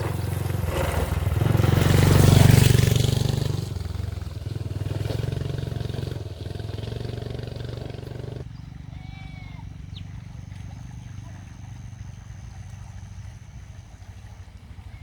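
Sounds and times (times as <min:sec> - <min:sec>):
engine revving: 0:00.0 - 0:12.2.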